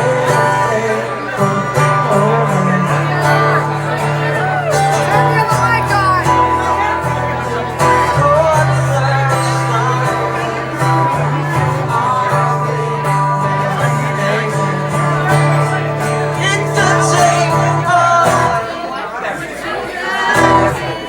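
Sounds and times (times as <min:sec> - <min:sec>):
guitar playing: 0:00.0 - 0:18.8, 0:20.1 - 0:21.0
person singing: 0:00.0 - 0:18.8.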